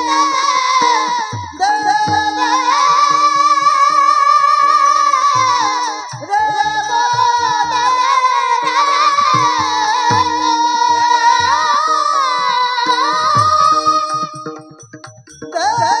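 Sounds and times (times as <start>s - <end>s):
person singing high-pitched: 0.0s - 14.7s
steady held tone: 0.0s - 16.0s.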